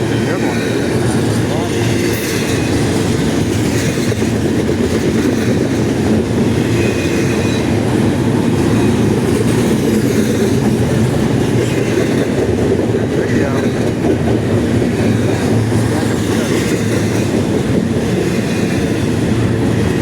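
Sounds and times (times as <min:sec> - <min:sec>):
freight train wheels clattering on rails: 0:00.0 - 0:20.0.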